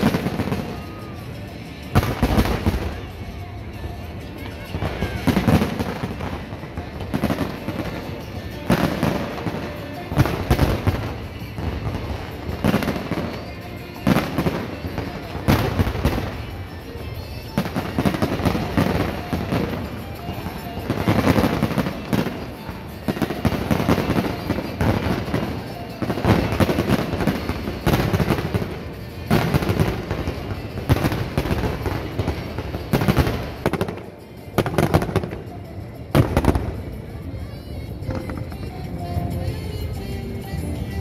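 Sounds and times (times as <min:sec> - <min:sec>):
fireworks bursting: 0:00.0 - 0:39.6
fireworks crackles: 0:00.0 - 0:41.0.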